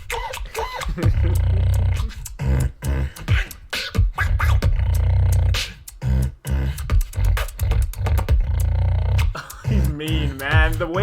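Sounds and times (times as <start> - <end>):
beatboxing: 0.0 - 11.0.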